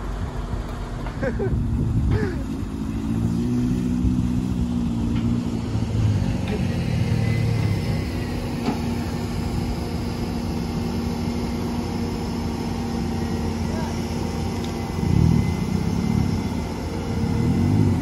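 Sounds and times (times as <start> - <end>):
heavy diesel engine under load: 0.0 - 18.0.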